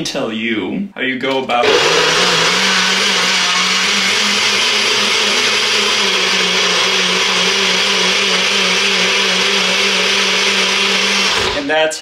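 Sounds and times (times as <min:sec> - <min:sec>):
blender motor running: 0:01.6 - 0:11.8.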